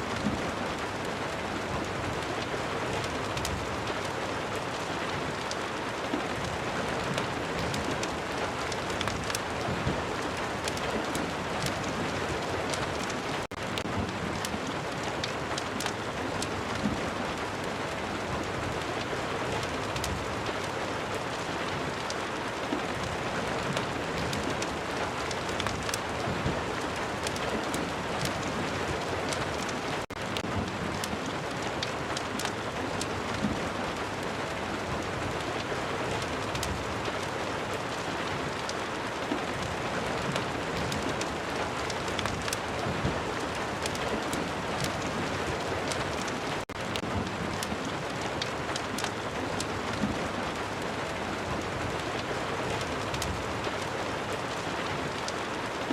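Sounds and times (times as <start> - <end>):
fire crackling: 0.0 - 55.9
steady rain: 0.0 - 55.9.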